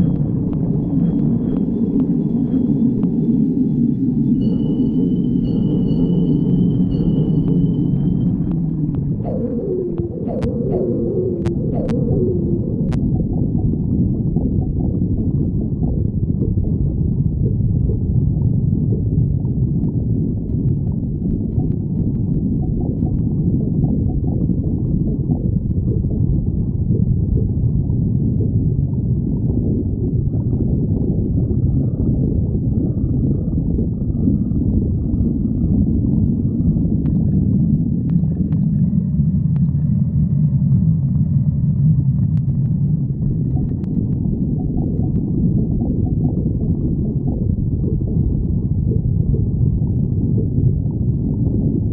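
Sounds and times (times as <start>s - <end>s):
stomach growling: 7.4s - 51.9s.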